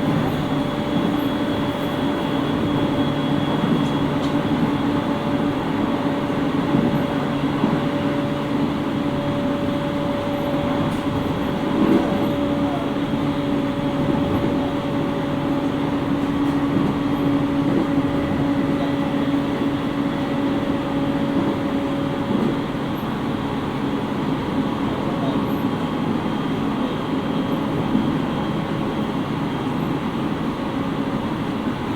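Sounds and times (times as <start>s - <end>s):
wheel and rail rumble: 0.0s - 31.9s.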